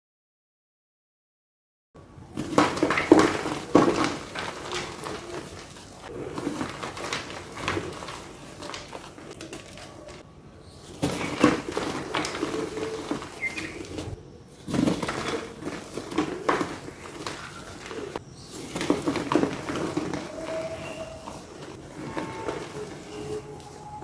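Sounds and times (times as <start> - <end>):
chalk crumbling by hand: 2.4 - 10.2, 10.8 - 24.0.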